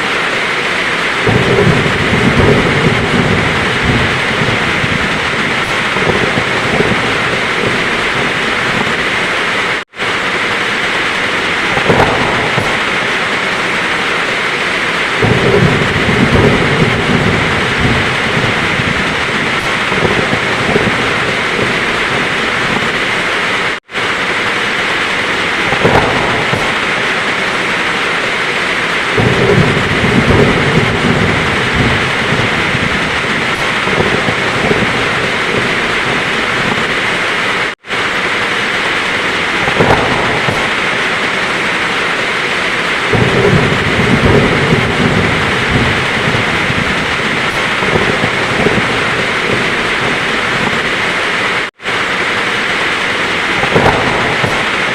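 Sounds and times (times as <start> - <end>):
heavy rain falling: 0.0 - 54.9
thunder rumbling: 0.0 - 54.9.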